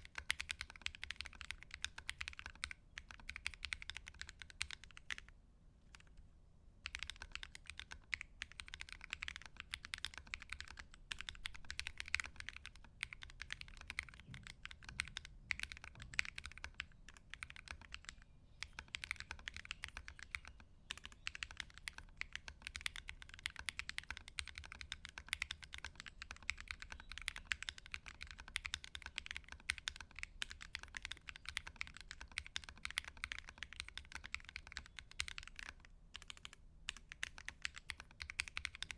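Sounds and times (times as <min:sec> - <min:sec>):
mechanical keyboard key clicks: 0:06.9 - 0:38.9.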